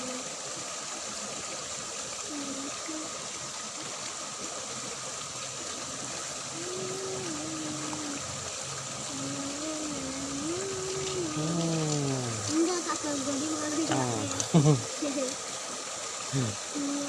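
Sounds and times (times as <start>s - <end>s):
faint wavering hum: 0.0s - 15.4s
water running through ditch: 0.0s - 17.0s.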